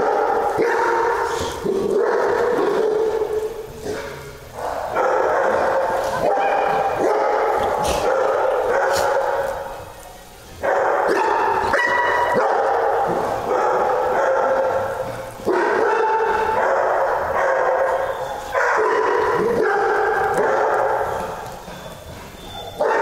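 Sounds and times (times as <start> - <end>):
dogs barking: 0.0 - 10.0, 10.6 - 23.0.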